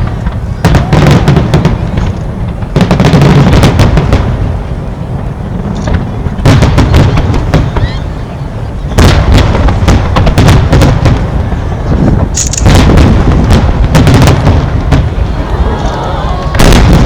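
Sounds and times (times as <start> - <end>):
continuous low rumble: 0.0 - 17.0
fireworks bursting: 0.0 - 17.0.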